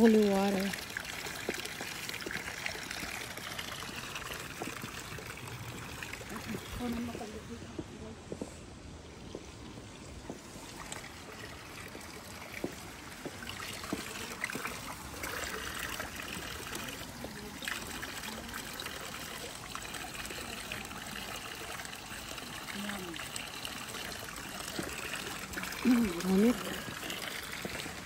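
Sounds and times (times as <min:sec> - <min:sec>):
water trickling into stone basin: 0:00.0 - 0:28.0.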